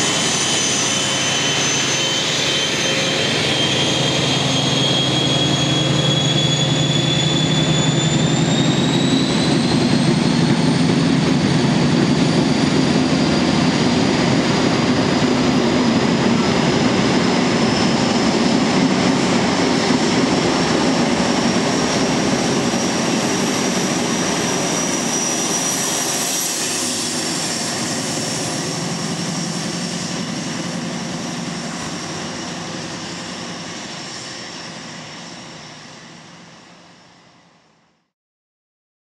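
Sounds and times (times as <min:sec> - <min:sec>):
diesel train engine drone: 0:00.0 - 0:37.8.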